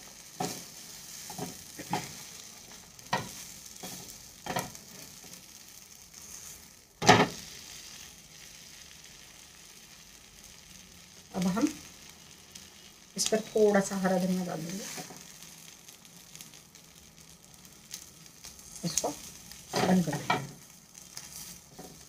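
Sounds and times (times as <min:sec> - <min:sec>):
buns sizzling on hot pan: 0:00.0 - 0:22.0.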